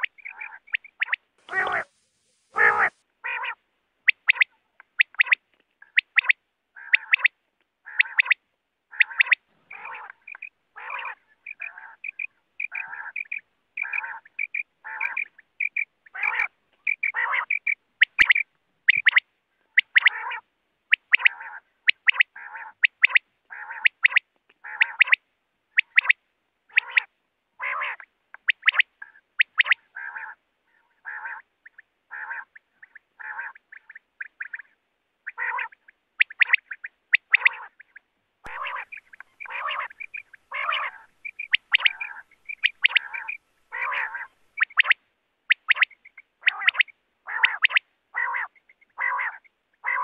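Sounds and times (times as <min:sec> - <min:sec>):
quail calling: 0:00.0 - 0:50.0.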